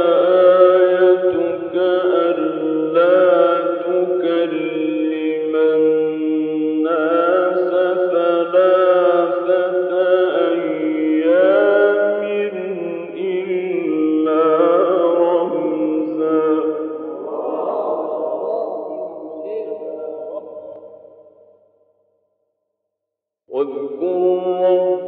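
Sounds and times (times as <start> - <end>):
man chanting: 0.0 - 21.2, 23.5 - 25.0.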